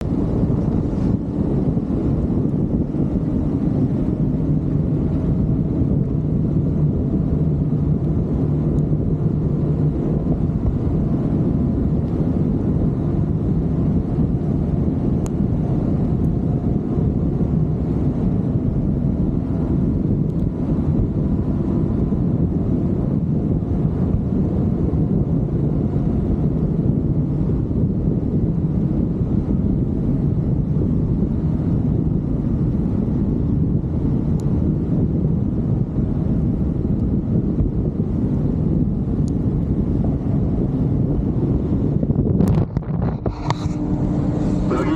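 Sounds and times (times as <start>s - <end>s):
vehicle engine running: 0.0s - 44.9s
wind noise on microphone: 0.0s - 44.9s.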